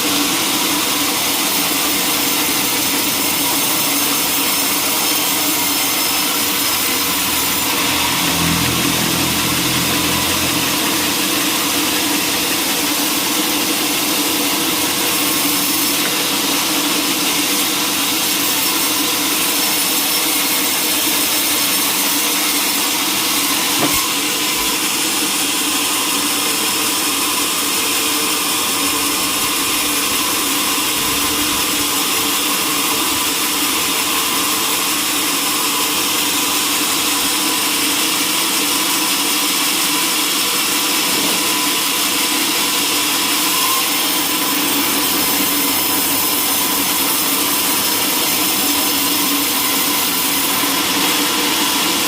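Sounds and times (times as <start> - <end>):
sawmill machinery whirring: 0.0 - 52.0.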